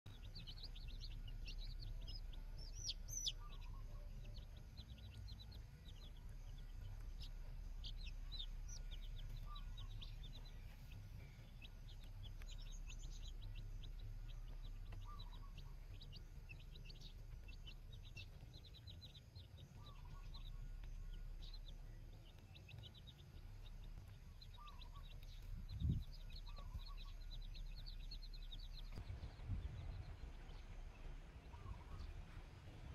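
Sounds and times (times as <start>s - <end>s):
low steady rumble: 0.0s - 32.9s
baby chicks peeping: 0.1s - 32.9s.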